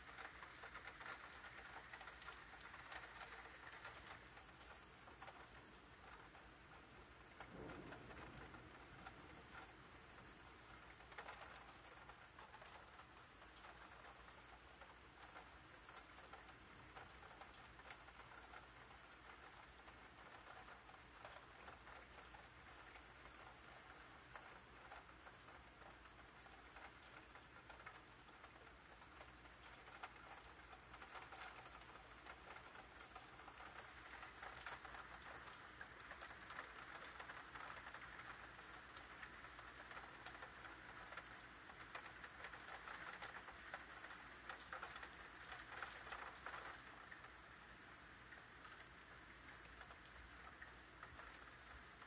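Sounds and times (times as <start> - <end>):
faint steady rain: 0.0 - 52.0.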